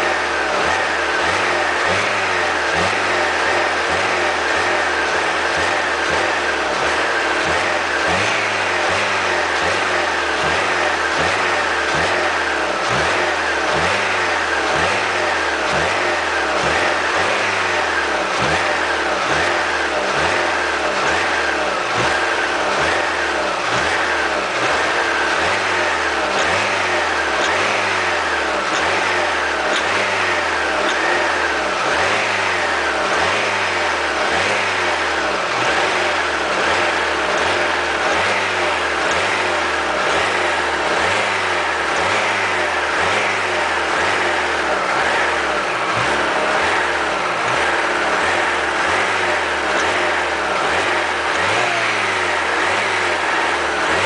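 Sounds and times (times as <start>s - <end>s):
car engine running: 0.0s - 54.0s
engine grinding noise: 0.0s - 54.0s.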